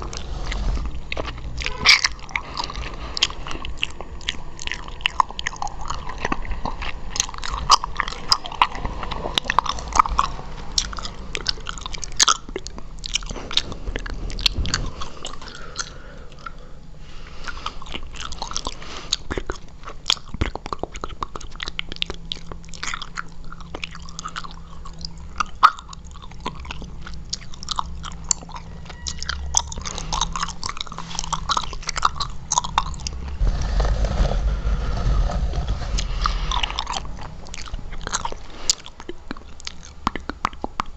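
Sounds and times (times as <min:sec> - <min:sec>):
chewing gum mouth clicks: 0:00.0 - 0:33.4, 0:36.2 - 0:40.9.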